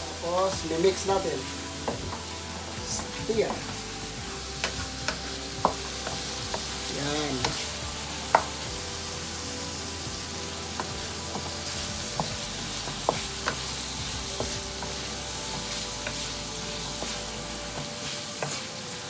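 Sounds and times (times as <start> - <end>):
vegetables sizzling in pan: 0.0 - 19.0.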